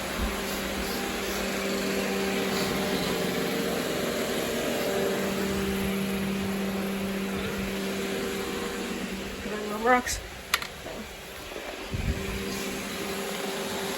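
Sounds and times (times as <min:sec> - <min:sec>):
robot vacuum running: 0:00.0 - 0:13.9.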